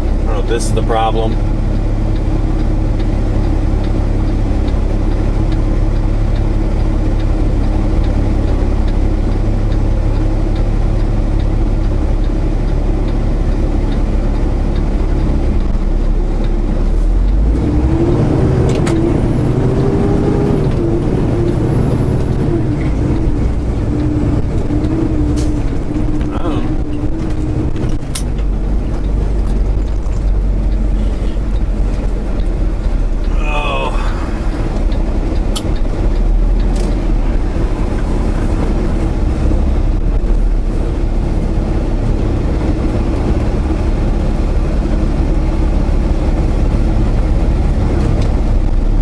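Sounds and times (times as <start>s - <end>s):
truck engine droning: 0.0s - 49.0s.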